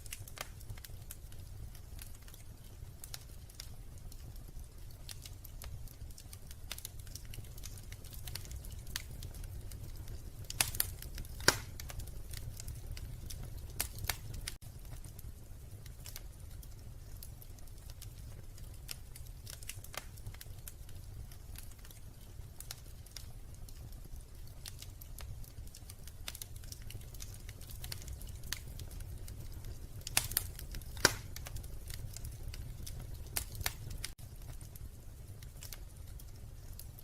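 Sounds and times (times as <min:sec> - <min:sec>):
wood fire crackling and snapping: 0:00.0 - 0:37.0.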